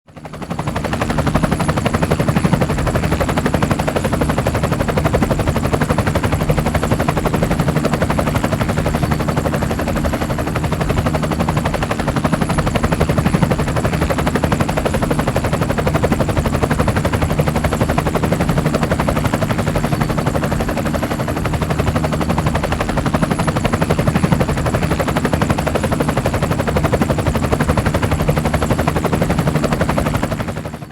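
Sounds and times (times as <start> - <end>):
helicopter engine hum: 0.1 - 30.9
helicopter rotor chop: 0.2 - 30.9.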